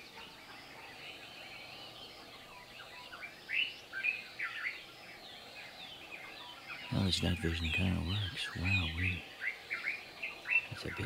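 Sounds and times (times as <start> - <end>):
birds chirping and whistling: 0.0 - 11.0.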